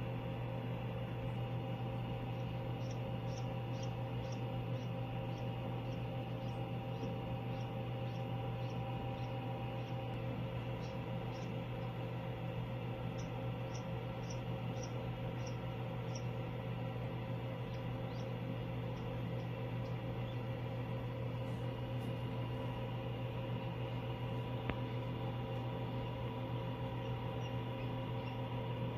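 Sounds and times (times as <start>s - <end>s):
incubator electrical hum: 0.0s - 28.9s
duckling peeping: 1.6s - 28.9s.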